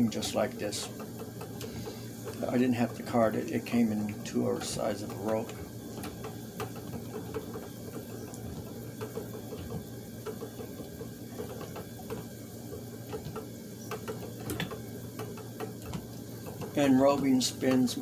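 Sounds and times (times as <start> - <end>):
spinning wheel running: 0.0 - 18.0
wooden mechanism clicking and rattling: 0.0 - 18.0.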